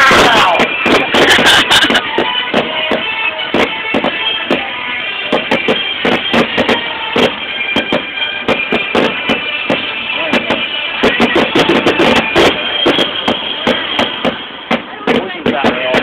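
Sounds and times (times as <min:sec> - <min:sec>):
fireworks bangs and crackles: 0:00.0 - 0:16.0
music with drums: 0:00.0 - 0:16.0.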